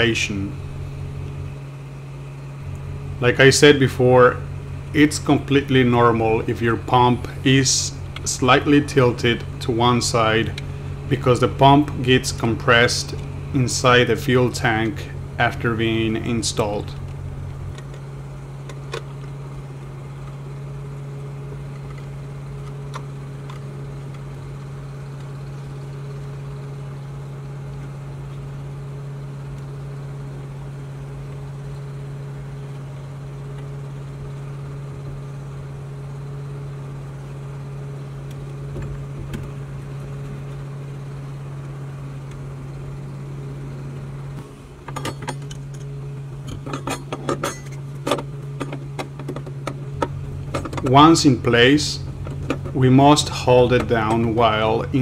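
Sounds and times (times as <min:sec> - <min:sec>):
low machine hum: 0:00.0 - 0:55.0.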